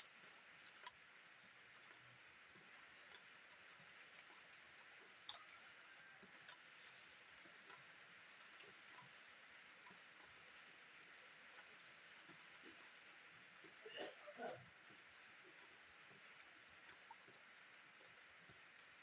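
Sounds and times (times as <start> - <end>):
faint steady rain: 0.0 - 19.0
raindrops ticking: 0.0 - 19.0.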